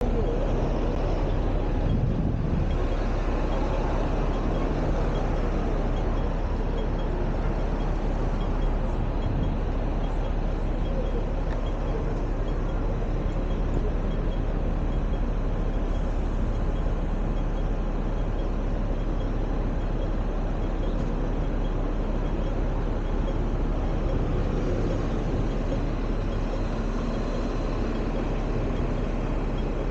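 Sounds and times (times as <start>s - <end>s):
vehicle rumble: 0.0s - 29.9s.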